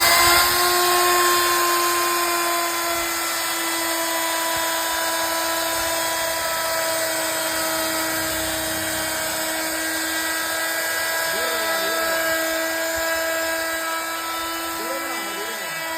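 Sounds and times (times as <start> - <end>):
electric router motor whine: 0.0 - 15.9.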